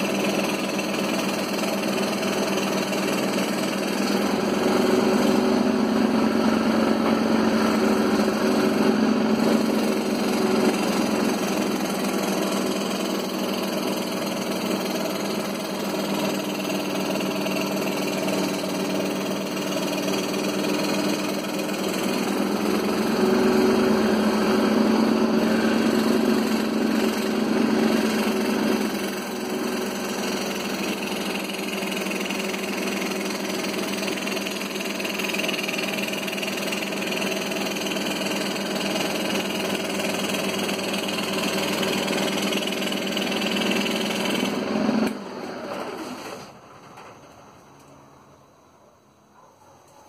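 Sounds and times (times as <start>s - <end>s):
scroll saw cutting wood: 0.0s - 46.6s.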